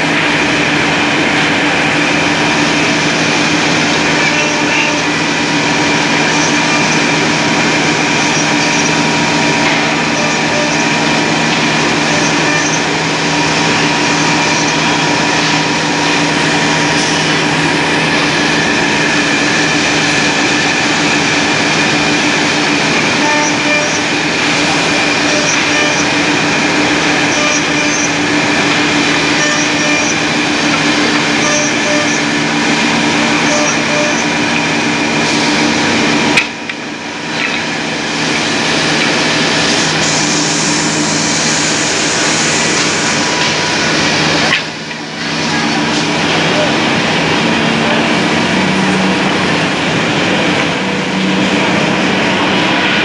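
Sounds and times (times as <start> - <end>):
spindle whine: 0.0 - 53.0
woodworking machine humming: 0.0 - 53.0.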